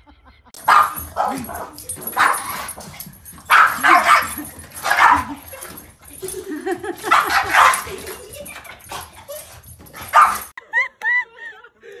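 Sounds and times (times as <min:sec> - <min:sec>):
dogs barking: 0:00.6 - 0:10.6
dogs yelping: 0:00.6 - 0:10.6.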